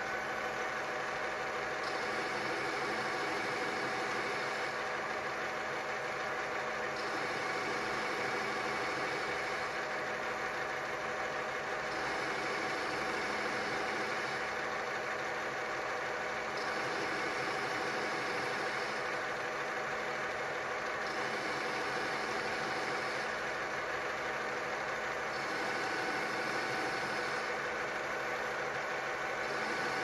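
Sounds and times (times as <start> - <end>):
lathe machine hum: 0.0 - 30.0.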